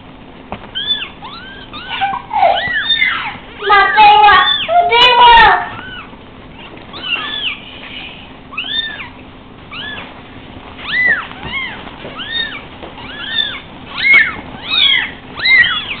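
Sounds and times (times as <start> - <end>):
kittens mewing: 0.6 - 16.0.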